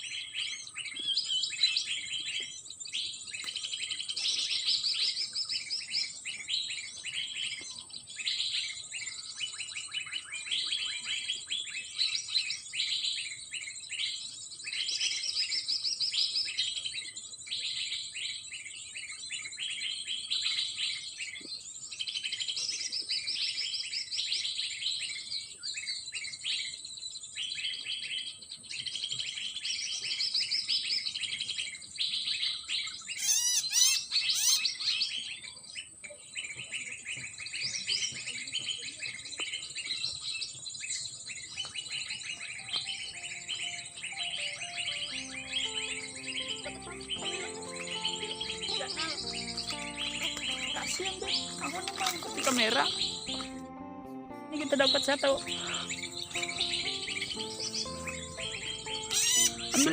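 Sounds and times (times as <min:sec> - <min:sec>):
small birds chirping and twittering: 0:00.0 - 0:53.6, 0:54.6 - 0:59.9.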